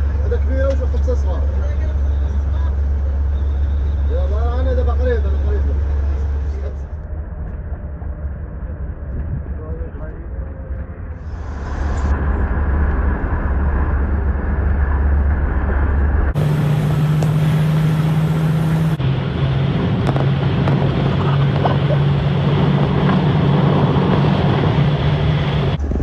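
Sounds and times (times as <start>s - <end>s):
road and wind noise: 0.0s - 26.0s
vehicle engine drone: 0.0s - 26.0s.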